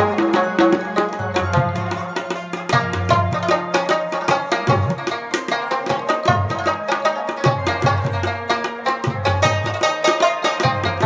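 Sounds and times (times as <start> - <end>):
plucked string instrument melody: 0.0 - 11.0
steady percussion: 0.0 - 11.0.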